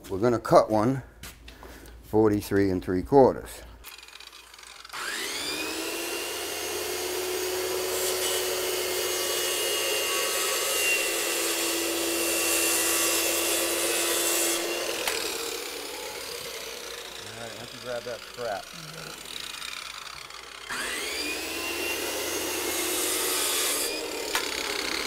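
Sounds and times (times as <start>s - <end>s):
circular saw cutting wood: 3.8s - 25.0s.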